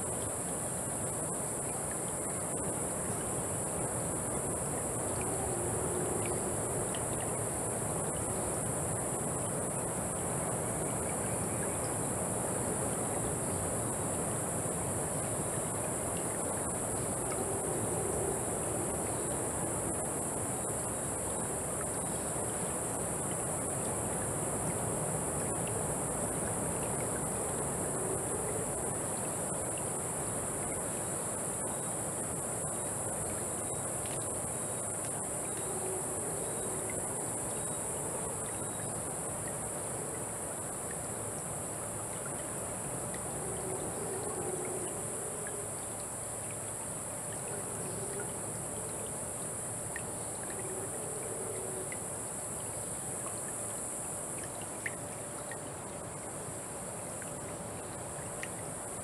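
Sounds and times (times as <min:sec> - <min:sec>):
high-pitched insect drone: 0:00.0 - 0:56.3
running stream: 0:00.0 - 0:59.0.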